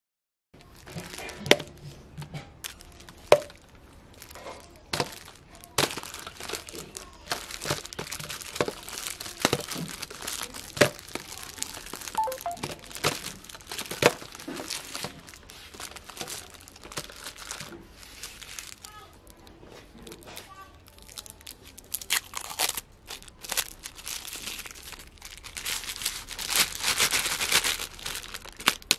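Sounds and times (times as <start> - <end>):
plastic wrappers crinkling: 0.6 - 28.9.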